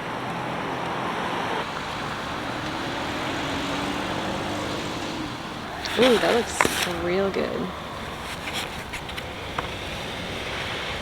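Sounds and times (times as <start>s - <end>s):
street traffic noise: 0.0s - 11.0s
vehicle engine hum: 0.0s - 11.0s.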